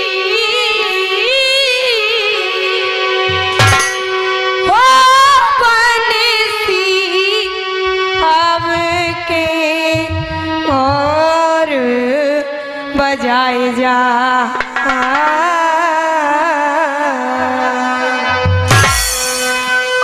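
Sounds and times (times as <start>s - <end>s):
girl singing with vibrato: 0.0s - 3.6s, 4.5s - 18.4s
harmonium: 0.0s - 20.0s.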